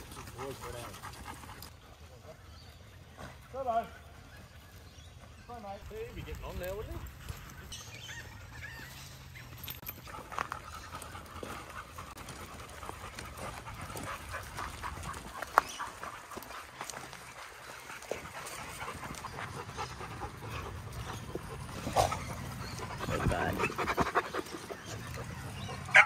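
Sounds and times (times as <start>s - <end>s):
dogs panting: 0.0s - 26.0s.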